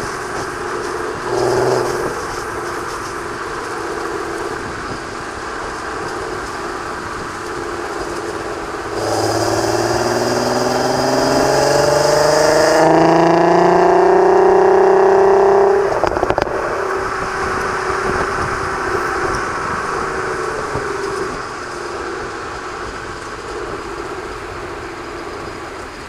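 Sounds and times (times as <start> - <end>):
car engine through exhaust: 0.0 - 26.0.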